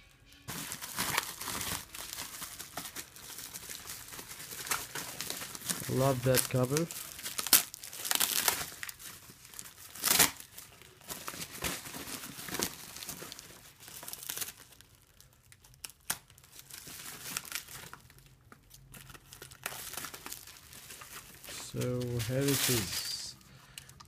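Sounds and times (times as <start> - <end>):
bubble wrap crinkling: 0.4 - 24.0.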